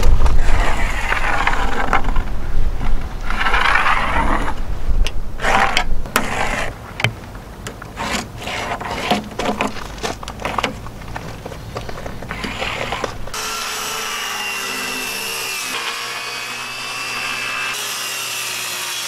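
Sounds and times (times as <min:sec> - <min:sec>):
tools scraping across wood: 0:00.0 - 0:17.8.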